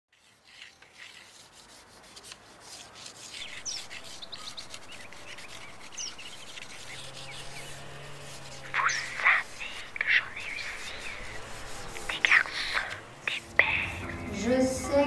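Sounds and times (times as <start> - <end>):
charcoal scratching on paper: 0.1 - 14.1.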